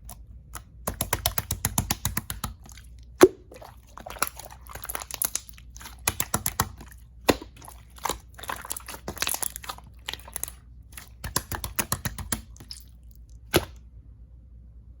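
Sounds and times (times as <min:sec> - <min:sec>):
slime clicking and popping: 0:00.6 - 0:13.8.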